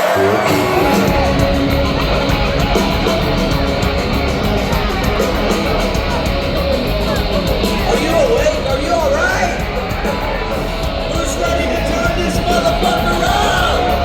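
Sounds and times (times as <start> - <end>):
metal band playing live: 0.0 - 14.0.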